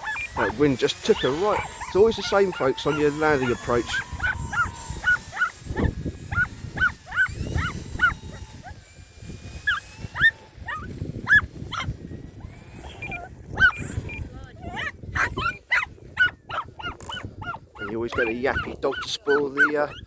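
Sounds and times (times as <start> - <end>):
small dog yapping: 0.0 - 8.8, 9.6 - 20.0.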